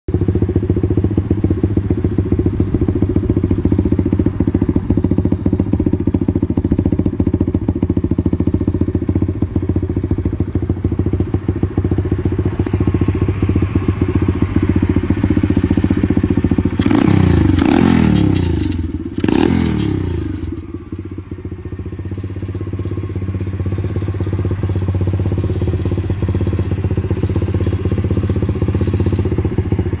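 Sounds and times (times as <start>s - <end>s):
motorbike engine idling: 0.1s - 30.0s
motorbike engine revving: 0.1s - 30.0s.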